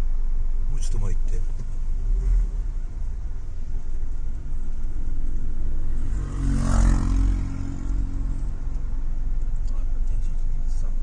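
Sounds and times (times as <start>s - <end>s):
passing motor vehicle rumble: 0.0s - 11.0s.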